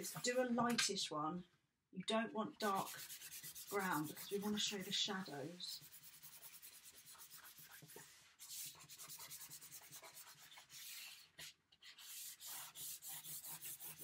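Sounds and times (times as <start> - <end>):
pastel rubbing on paper: 2.6 - 14.0.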